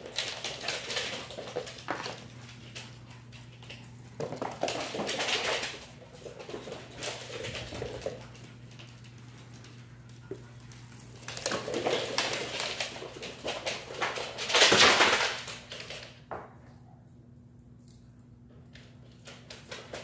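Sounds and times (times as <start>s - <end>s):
dogs scuffling on wood floor: 0.0s - 16.2s.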